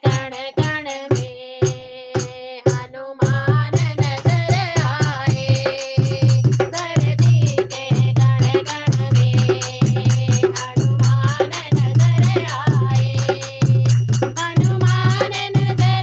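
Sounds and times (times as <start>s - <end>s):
devotional music with percussion: 0.0s - 16.0s.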